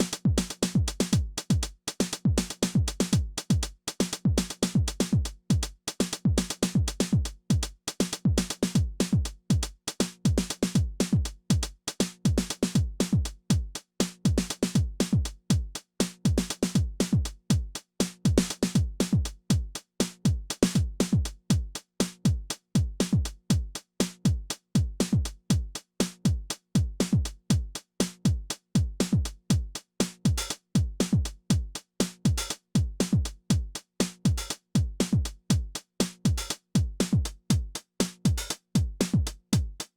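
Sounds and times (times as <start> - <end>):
drum machine kick drums: 0.0 - 39.9
hi-hats and cymbals: 0.0 - 39.9.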